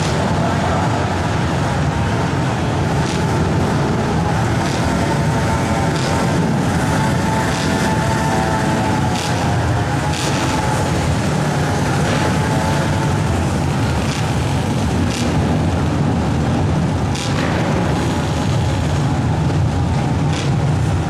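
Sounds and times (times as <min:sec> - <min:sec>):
quad engines racing: 0:00.0 - 0:21.0.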